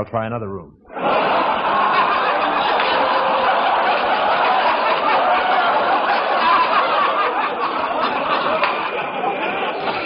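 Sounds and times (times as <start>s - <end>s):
studio audience laughing: 0.9s - 10.0s.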